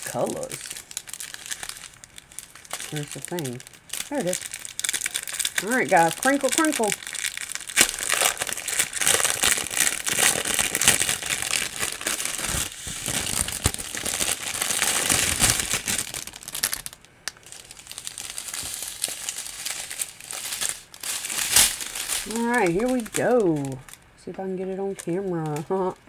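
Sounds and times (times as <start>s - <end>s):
plastic bags crinkling: 0.0s - 26.0s.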